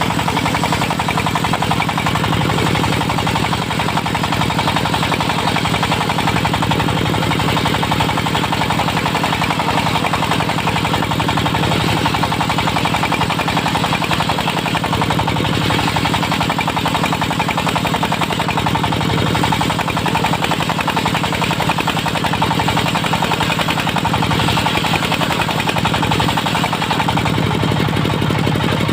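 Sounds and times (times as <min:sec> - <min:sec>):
diesel engine knocking steadily: 0:00.0 - 0:28.9.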